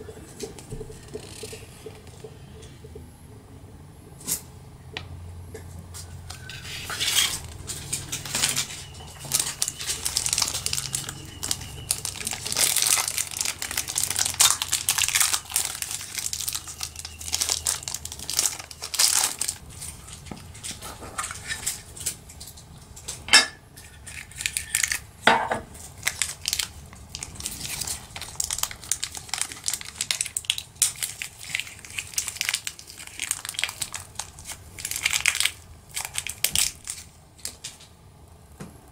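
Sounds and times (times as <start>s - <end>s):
paper and plastic wrapping crinkling: 0.3s - 2.3s, 5.9s - 23.2s, 25.7s - 37.9s.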